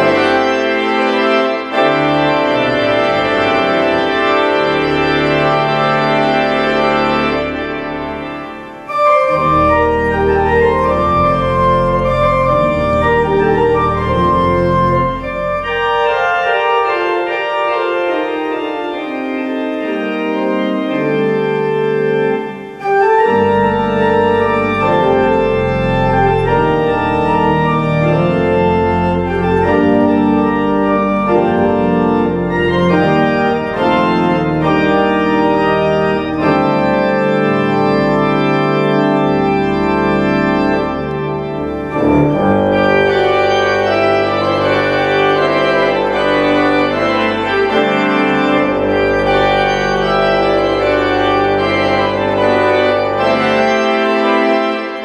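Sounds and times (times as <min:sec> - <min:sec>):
deep organ pedal bass: 0:00.0 - 0:55.0
organ chords: 0:00.0 - 0:55.0.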